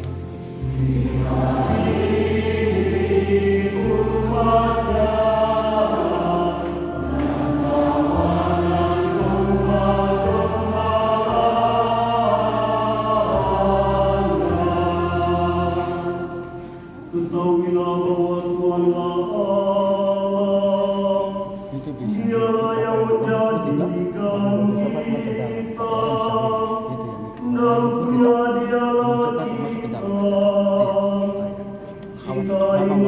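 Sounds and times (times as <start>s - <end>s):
sustained low accompaniment: 0.0s - 33.0s
group singing a hymn: 0.7s - 21.6s, 22.3s - 33.0s.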